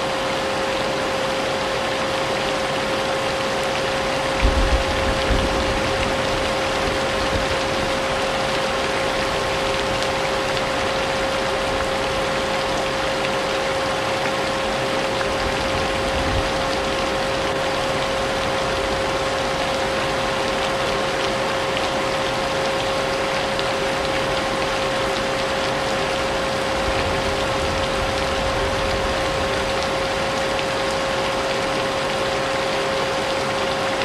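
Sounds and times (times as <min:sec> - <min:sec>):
rain: 0:00.0 - 0:34.0.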